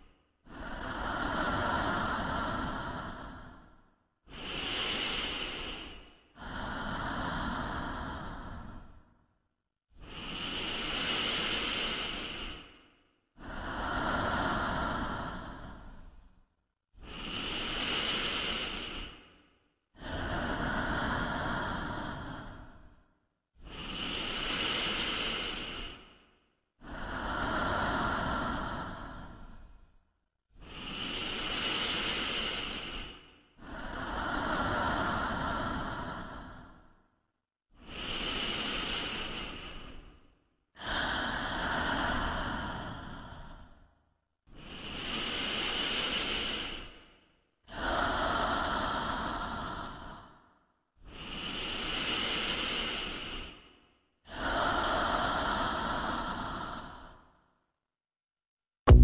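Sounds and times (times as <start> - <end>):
deep amplified breathing: 0.0 - 57.8.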